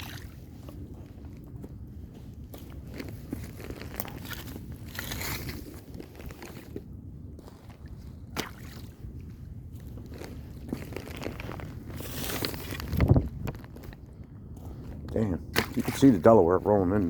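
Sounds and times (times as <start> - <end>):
footsteps on wet marsh ground: 0.0 - 17.0
steady low rumble: 0.0 - 17.0.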